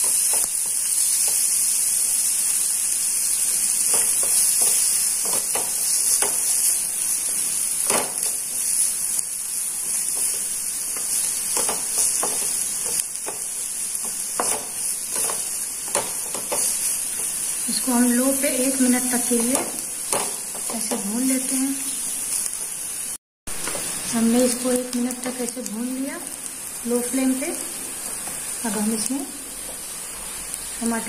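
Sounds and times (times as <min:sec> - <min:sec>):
onions sizzling in a pan: 0:00.0 - 0:31.0.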